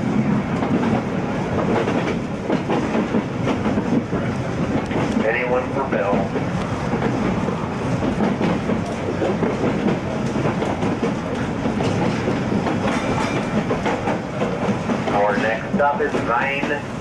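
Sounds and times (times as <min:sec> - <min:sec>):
clickety-clack over rail joints: 0:00.0 - 0:17.0
tram wheels rumbling on rail: 0:00.0 - 0:17.0.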